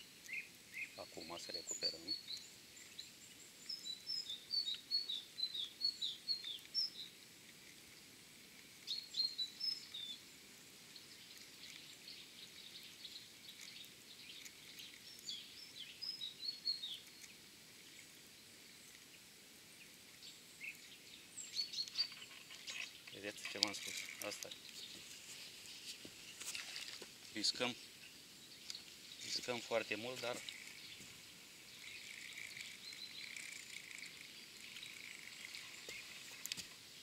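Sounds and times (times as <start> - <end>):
faint outdoor hiss: 0.0 - 37.0
small songbirds chirping: 0.0 - 37.0.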